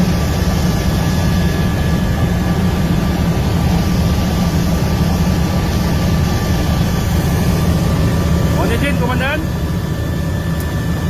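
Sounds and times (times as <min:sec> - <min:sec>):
loud engine drone: 0:00.0 - 0:11.0.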